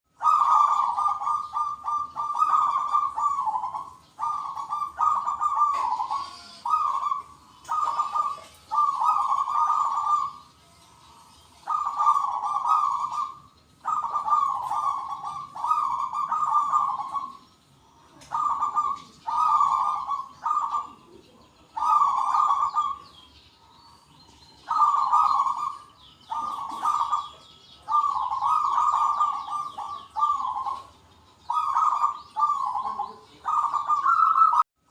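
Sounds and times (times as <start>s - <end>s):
doves cooing: 0.1s - 34.9s
high bird chirping: 0.1s - 34.9s.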